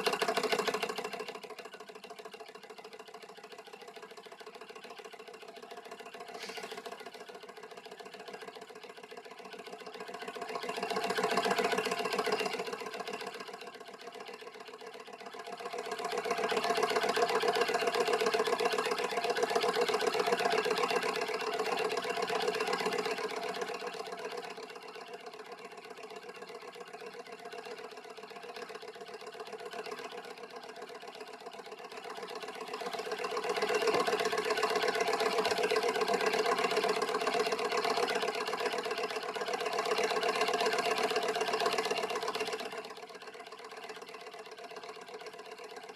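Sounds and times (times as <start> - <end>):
stirling engine clattering: 0.0 - 45.9.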